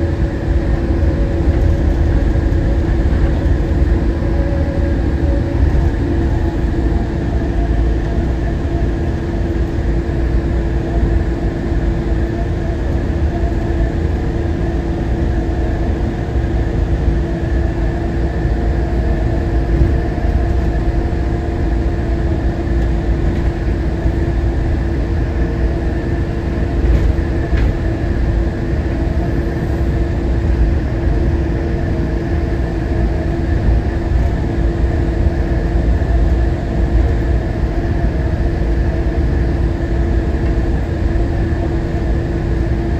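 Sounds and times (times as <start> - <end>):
train car rumbling: 0.0 - 42.9.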